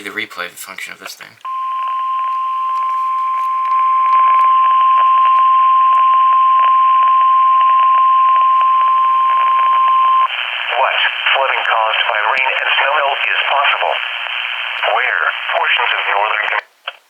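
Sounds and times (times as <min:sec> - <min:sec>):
static crackle: 0:01.3 - 0:17.0.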